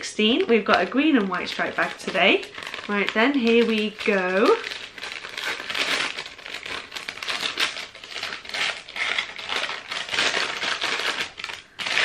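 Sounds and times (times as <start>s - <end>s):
paper bag crinkling: 0.0s - 12.0s.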